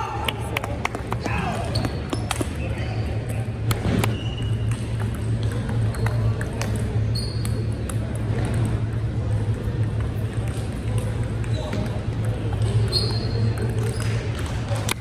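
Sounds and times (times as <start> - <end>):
low hum of large hall: 0.0 - 15.0.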